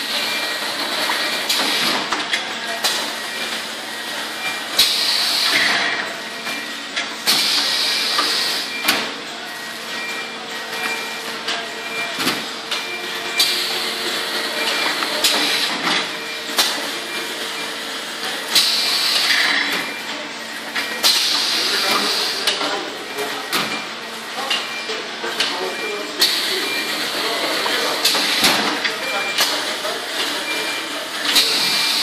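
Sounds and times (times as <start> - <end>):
packaging machine hum: 0.0 - 32.0.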